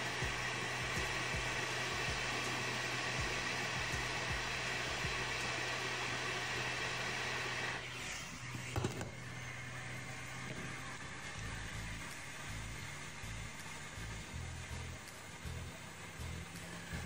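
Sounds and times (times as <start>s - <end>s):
hot-air rework station blowing: 0.0s - 17.0s.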